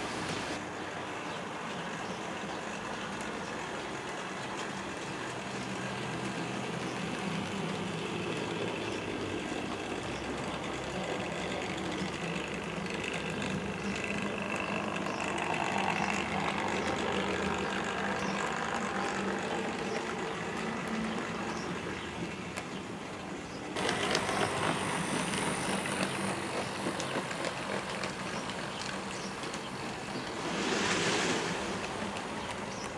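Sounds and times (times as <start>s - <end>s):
wheels clicking on rails: 0.0s - 32.9s
model train motors whirring: 1.4s - 32.9s.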